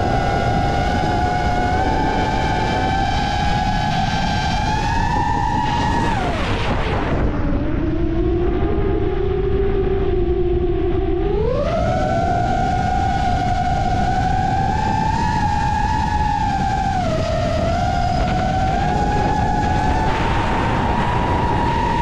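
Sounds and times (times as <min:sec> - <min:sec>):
quadcopter motors whining: 0:00.0 - 0:09.6, 0:11.0 - 0:22.0
wind noise rumble: 0:00.0 - 0:22.0.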